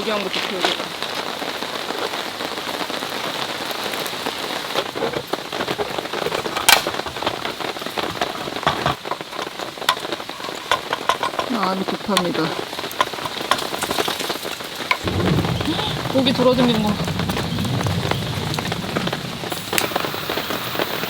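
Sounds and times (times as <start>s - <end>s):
heavy rain on a tarp: 0.0s - 21.0s.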